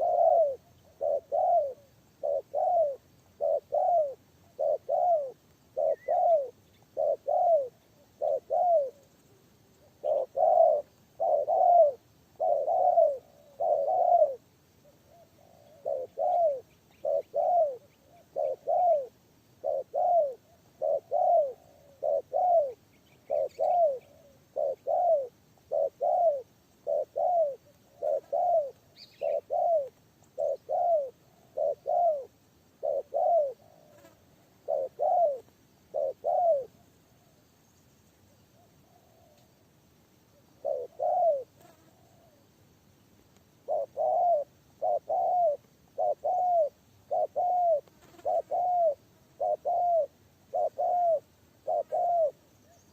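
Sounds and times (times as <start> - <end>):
dove cooing: 0.0 - 37.3, 38.6 - 39.6, 40.5 - 42.5, 43.6 - 52.9.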